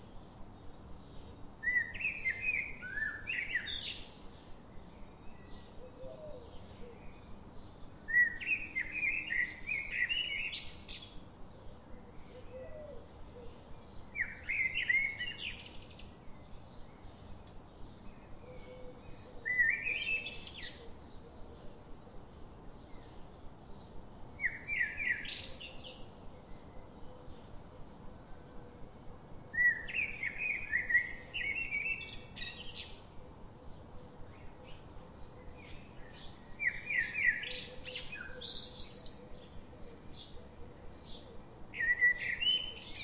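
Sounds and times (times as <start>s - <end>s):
songbird chirping: 0.0s - 43.0s.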